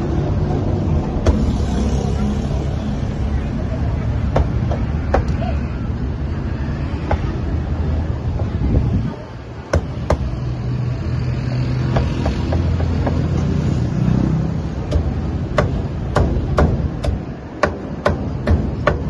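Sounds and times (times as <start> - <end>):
low rumble of street traffic: 0.0 - 19.0.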